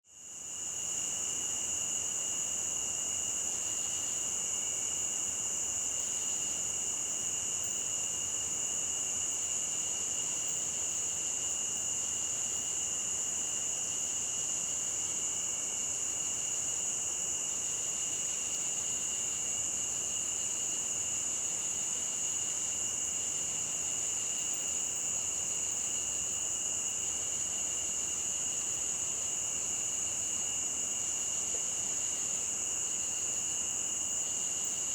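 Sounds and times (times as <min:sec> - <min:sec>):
crickets trilling: 0:00.2 - 0:34.9.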